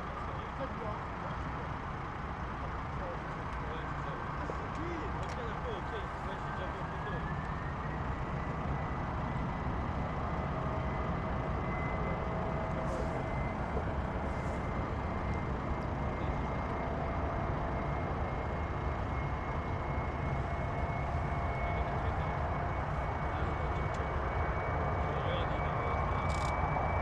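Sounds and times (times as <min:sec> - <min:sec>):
jet engines running: 0:00.1 - 0:27.0.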